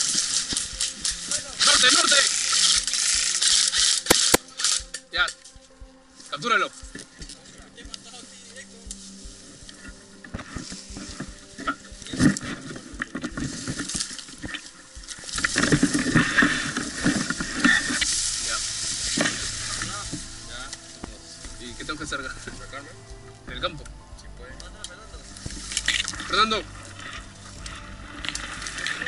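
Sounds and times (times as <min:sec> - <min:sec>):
dry grass rustling and crackling: 0:00.0 - 0:29.0.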